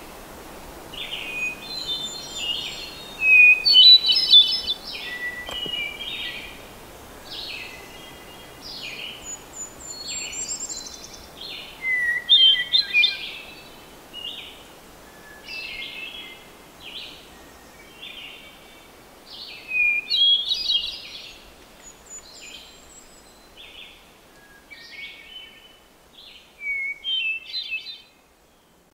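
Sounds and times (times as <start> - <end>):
faint steady hiss: 0.0 - 28.9.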